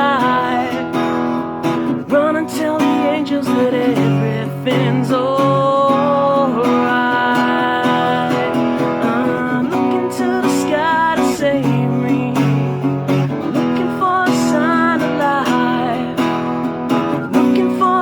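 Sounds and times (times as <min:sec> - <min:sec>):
acoustic guitar strumming chords: 0:00.0 - 0:18.0
bending guitar melody: 0:00.0 - 0:18.0.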